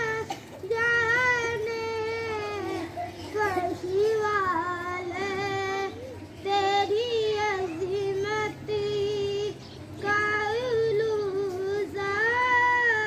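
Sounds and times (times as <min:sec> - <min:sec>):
child singing unaccompanied: 0:00.0 - 0:13.0.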